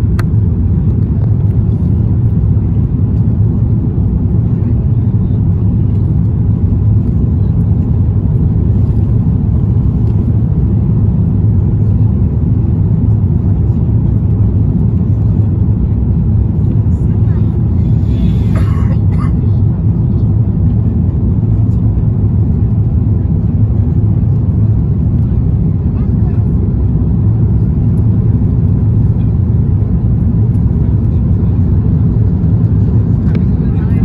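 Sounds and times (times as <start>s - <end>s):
airliner cabin low rumble: 0.0s - 34.0s.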